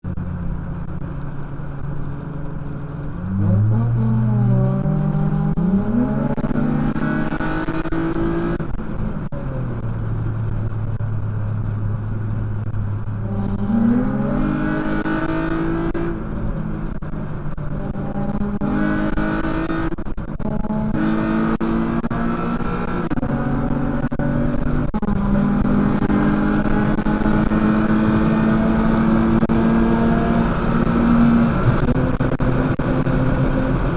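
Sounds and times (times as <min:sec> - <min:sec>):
car engine accelerating hard: 0:00.0 - 0:33.9.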